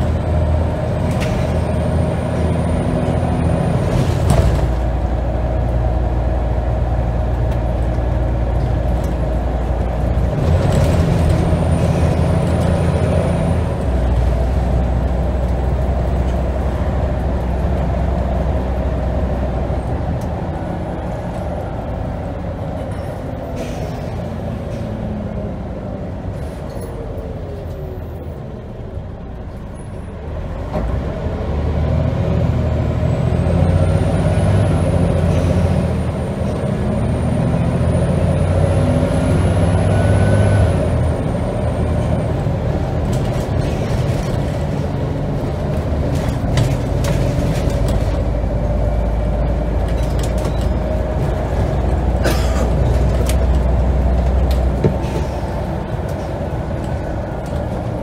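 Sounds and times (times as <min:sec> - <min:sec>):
bus diesel engine under load: 0:00.0 - 0:58.0.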